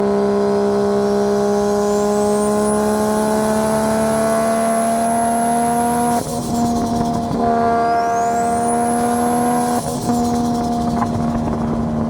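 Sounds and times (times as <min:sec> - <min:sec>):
turbocharged car engine pulling: 0:00.0 - 0:12.0
high turbo whistle: 0:00.2 - 0:11.3.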